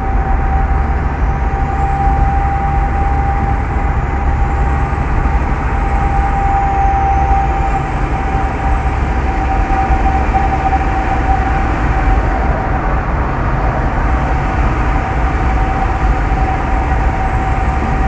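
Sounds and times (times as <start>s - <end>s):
constant steady whine: 0.0s - 18.0s
vehicle rumbling on highway: 0.0s - 18.0s.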